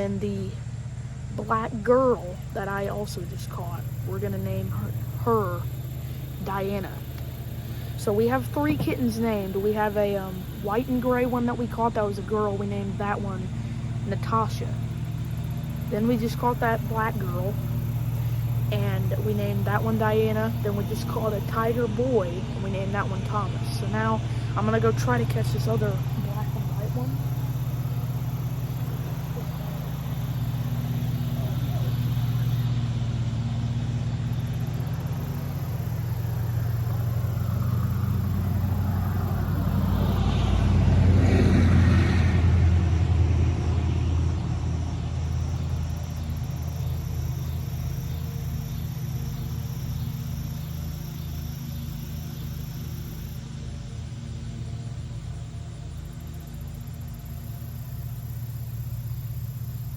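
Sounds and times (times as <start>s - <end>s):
road vehicle passing by: 0.0s - 59.9s
steady low rumble: 0.0s - 59.9s.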